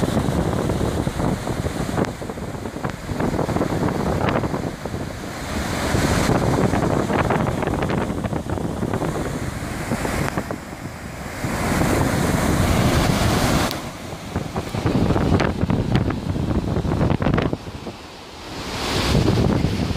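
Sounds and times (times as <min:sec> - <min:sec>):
rushing propeller wake: 0:00.0 - 0:19.9
wind buffeting microphone: 0:00.0 - 0:19.9.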